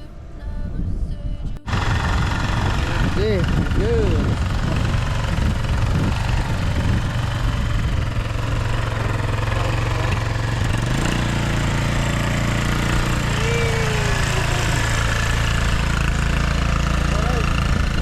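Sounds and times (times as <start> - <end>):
atv engine idling: 1.6 - 18.0.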